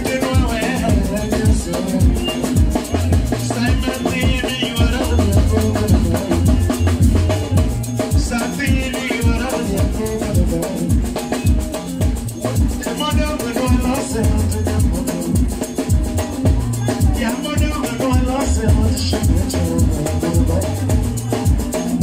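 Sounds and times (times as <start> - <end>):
loud dance music: 0.0 - 22.0.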